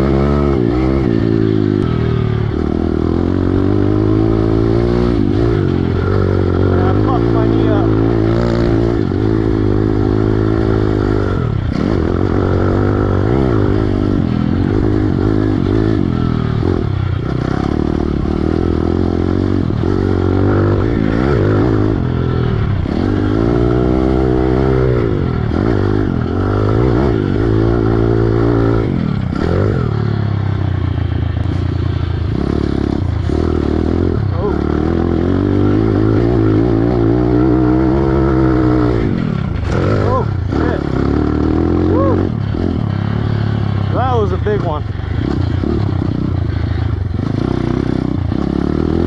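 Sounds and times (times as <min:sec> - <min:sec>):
small motorcycle engine revving: 0:00.0 - 0:49.0.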